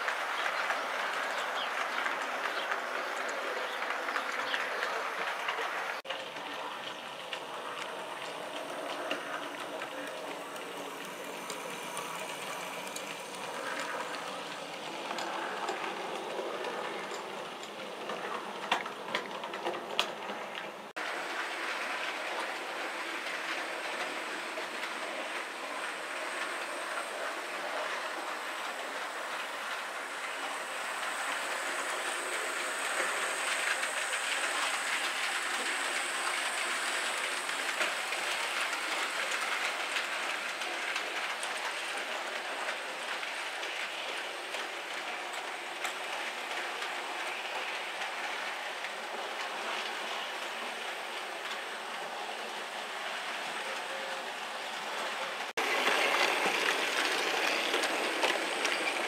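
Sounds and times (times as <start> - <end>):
model train wheels rattling on track: 0.0 - 59.0.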